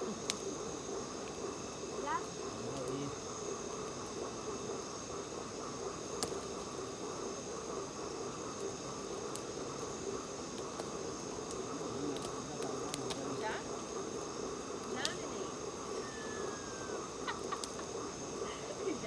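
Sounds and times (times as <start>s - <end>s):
bonfire crackles: 0.0s - 19.0s
night insects chorus: 0.0s - 19.0s.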